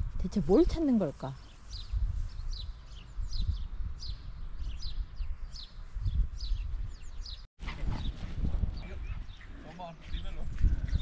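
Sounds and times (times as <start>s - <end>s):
songbird chirping: 0.3s - 11.0s.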